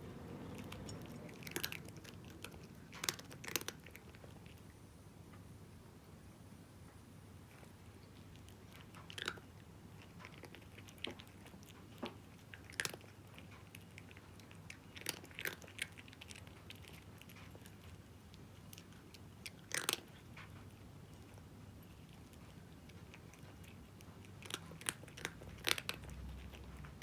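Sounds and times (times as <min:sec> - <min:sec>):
cat crunching dry kibble: 0:00.4 - 0:04.8, 0:07.5 - 0:27.0.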